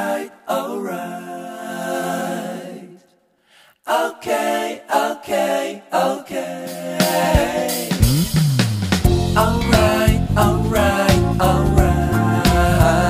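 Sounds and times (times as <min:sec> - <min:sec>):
voices singing: 0:00.0 - 0:03.2, 0:03.8 - 0:08.2, 0:09.1 - 0:13.0.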